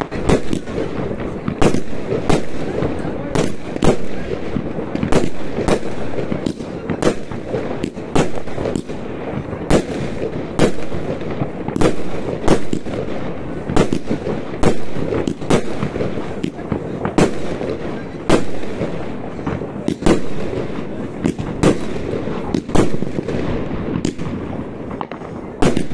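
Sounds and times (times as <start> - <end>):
fireworks banging: 0.0 - 25.9
fireworks crackle: 0.0 - 25.9.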